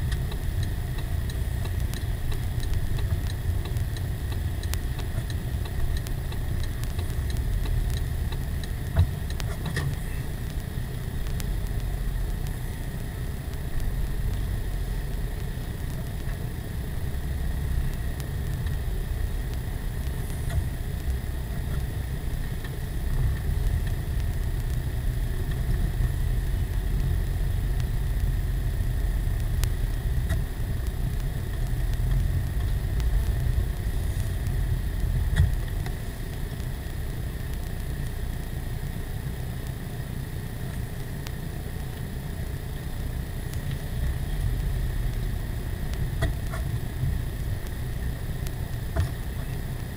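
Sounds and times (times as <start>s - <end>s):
car driving rumble: 0.0s - 49.9s.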